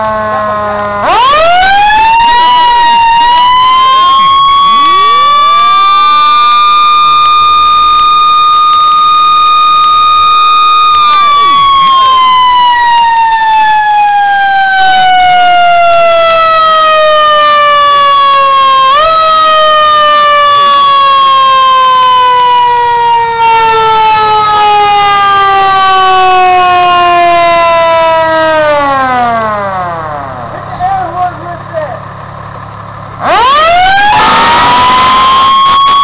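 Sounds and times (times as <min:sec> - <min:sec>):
mechanical siren wail winding down: 0:00.0 - 0:30.5, 0:33.2 - 0:36.0.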